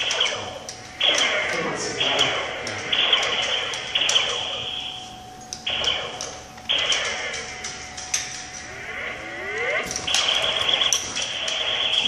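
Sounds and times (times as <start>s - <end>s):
electronic zapping bursts: 0.0s - 5.0s, 5.6s - 12.0s
steady electronic tone: 0.0s - 12.0s.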